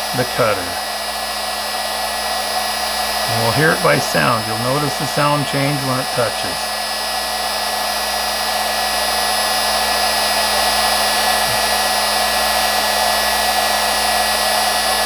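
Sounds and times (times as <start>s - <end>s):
grinding machine whine: 0.0s - 15.0s.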